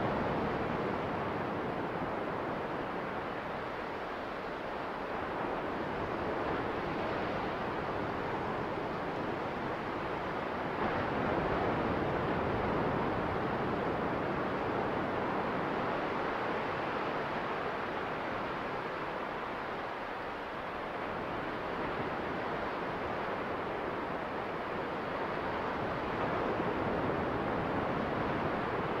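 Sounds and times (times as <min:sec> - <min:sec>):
small waves washing onto beach: 0:00.0 - 0:29.0
wind: 0:00.0 - 0:29.0.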